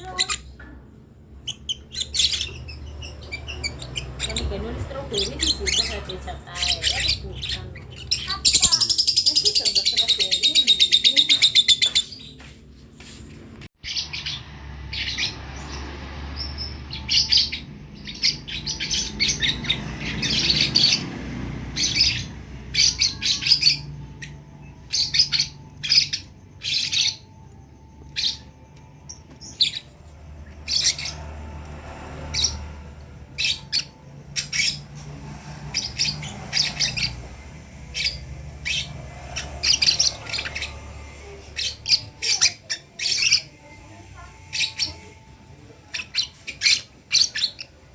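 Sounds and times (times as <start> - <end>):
lovebirds chirping: 0.0 - 47.9.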